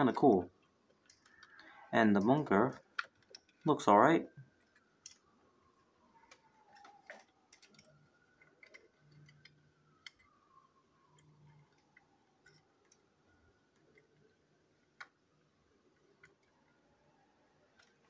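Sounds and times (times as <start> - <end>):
faint clicks and ticks: 0.1 - 18.0.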